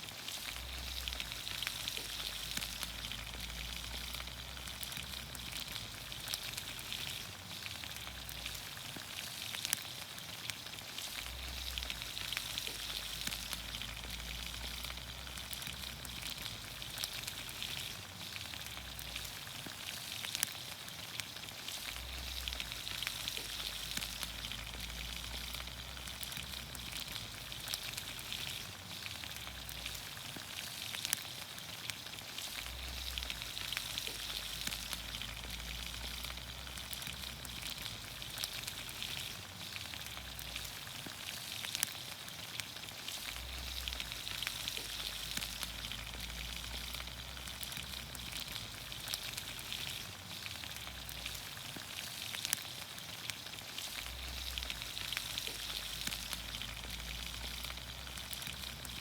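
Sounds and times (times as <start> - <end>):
vegetables sizzling in oil: 0.0 - 59.0
sharp pops and crackles: 0.4 - 59.0.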